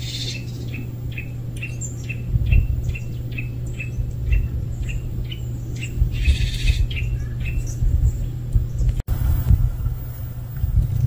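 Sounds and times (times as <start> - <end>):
low rumble: 0.0 - 11.0
small bird chirping: 0.0 - 11.0.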